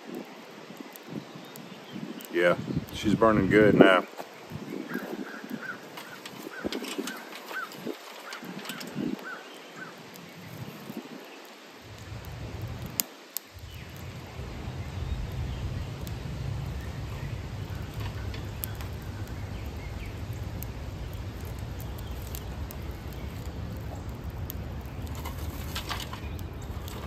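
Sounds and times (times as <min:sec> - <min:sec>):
wind rumbling on microphone: 0:00.0 - 0:27.0
wood fire crackling: 0:00.0 - 0:27.0.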